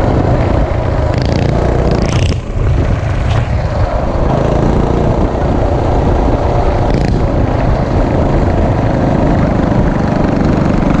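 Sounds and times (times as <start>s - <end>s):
minibike engine running: 0.0s - 11.0s.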